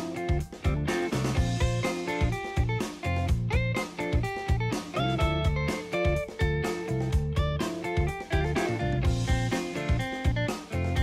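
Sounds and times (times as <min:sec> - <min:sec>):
drum kit beat: 0:00.0 - 0:11.0
guitar: 0:00.0 - 0:11.0.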